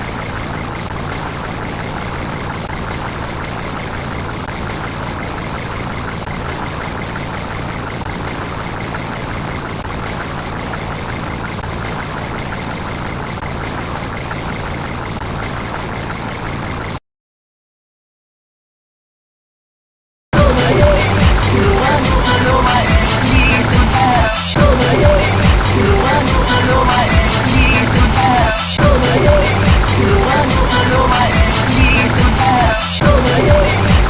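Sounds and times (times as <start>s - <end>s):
engine running: 0.0s - 17.0s, 20.4s - 34.0s.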